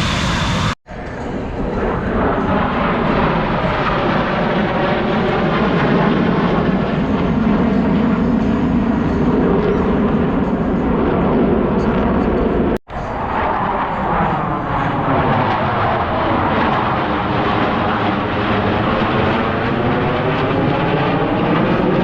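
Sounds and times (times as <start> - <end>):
jet engines flying past: 0.0 - 22.0.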